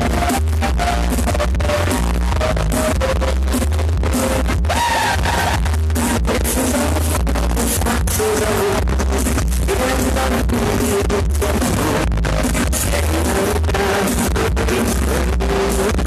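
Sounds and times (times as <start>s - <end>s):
electronic dance music: 0.0s - 16.0s.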